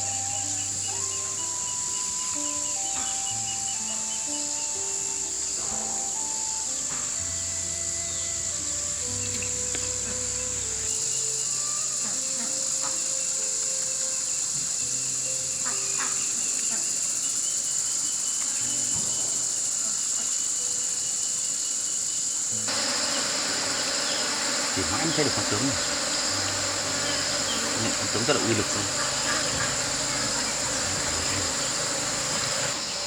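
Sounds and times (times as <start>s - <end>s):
insects chirring: 0.0s - 33.0s
soft background music: 0.0s - 33.0s.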